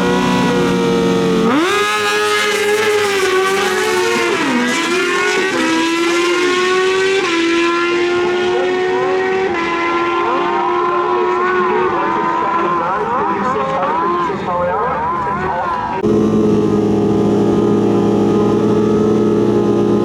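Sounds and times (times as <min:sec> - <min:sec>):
drag motorcycles at full throttle: 0:00.0 - 0:20.0.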